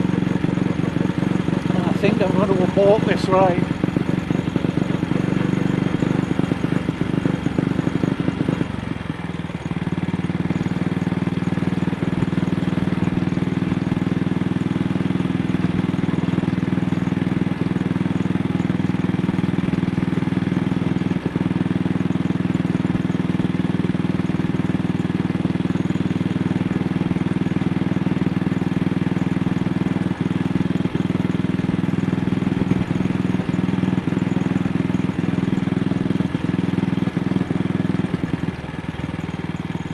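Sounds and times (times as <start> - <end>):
motorcycle engine misfiring: 0.0 - 39.9.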